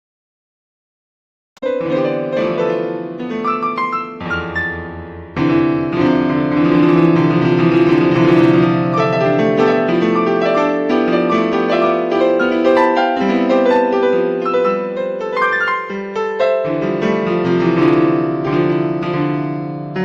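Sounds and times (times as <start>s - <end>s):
piano music: 1.6s - 20.0s.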